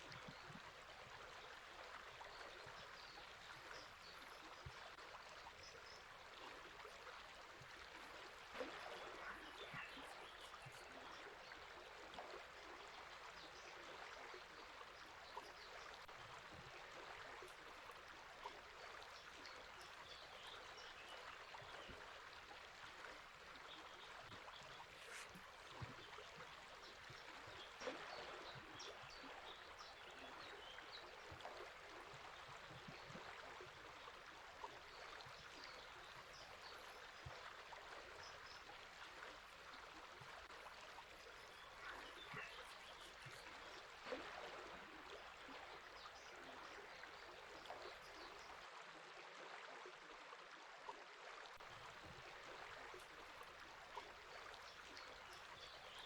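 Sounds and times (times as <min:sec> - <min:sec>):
river flowing: 0:00.0 - 0:48.6, 0:51.6 - 0:56.0.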